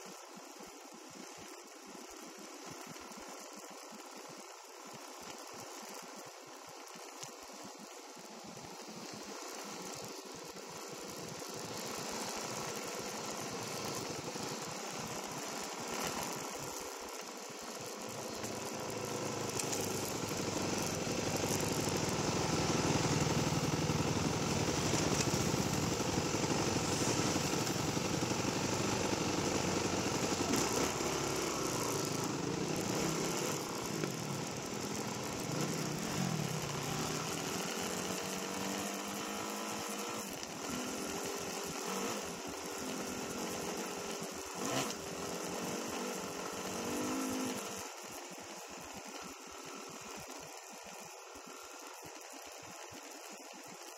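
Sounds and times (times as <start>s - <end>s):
dirt bike engine running: 5.3s - 53.9s.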